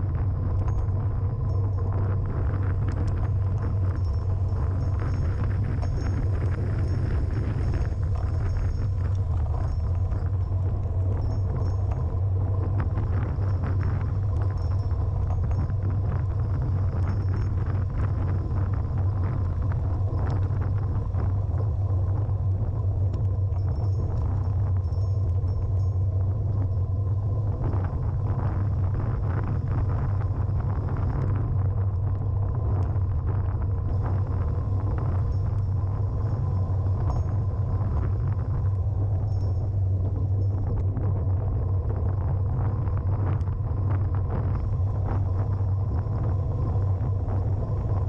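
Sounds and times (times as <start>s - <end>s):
tyre and road noise: 0.0s - 48.0s
wind rushing over microphone: 0.0s - 48.0s.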